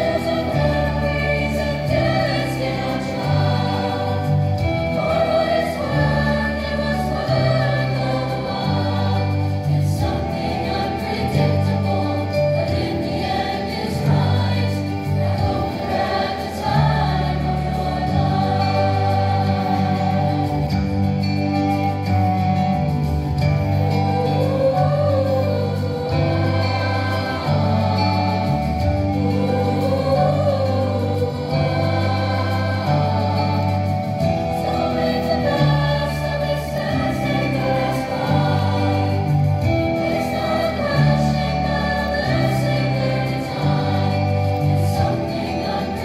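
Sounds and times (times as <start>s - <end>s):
choir singing in harmony: 0.0s - 46.0s.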